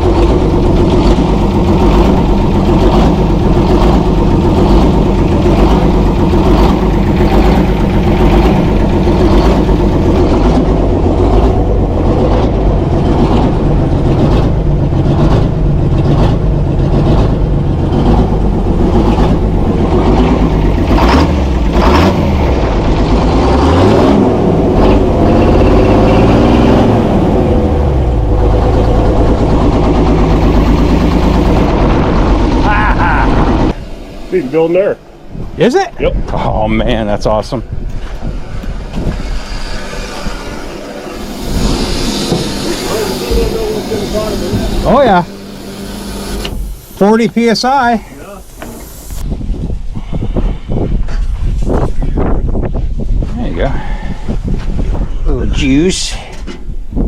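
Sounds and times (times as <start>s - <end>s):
diesel truck engine running: 0.0s - 56.4s.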